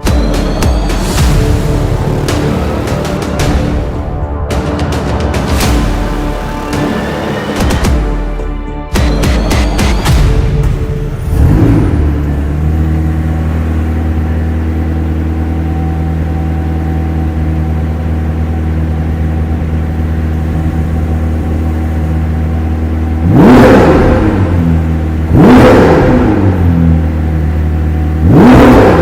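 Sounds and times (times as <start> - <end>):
car engine idling: 0.0 - 29.0
engine revving: 0.0 - 29.0.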